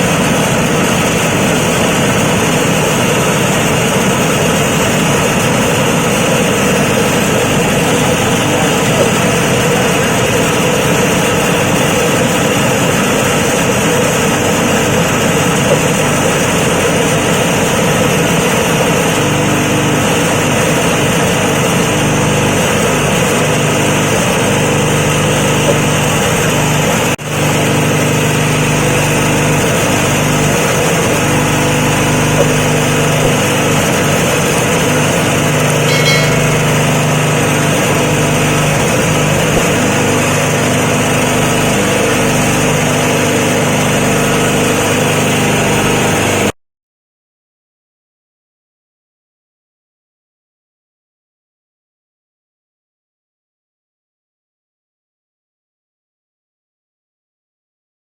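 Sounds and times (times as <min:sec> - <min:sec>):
grinding machine humming: 0:00.0 - 0:46.5.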